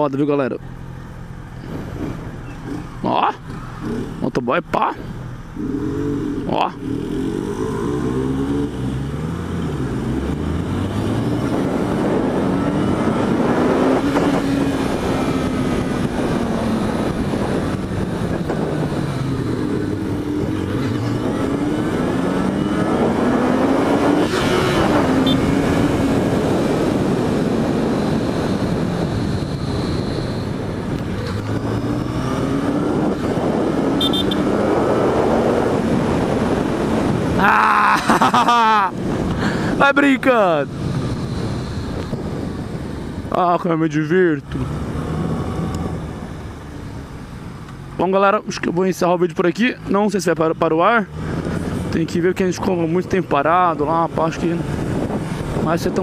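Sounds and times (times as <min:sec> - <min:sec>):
motorcycle engine revving: 0:00.7 - 0:37.5, 0:38.3 - 0:48.1, 0:49.5 - 0:56.0
wind rushing over microphone: 0:04.9 - 0:56.0.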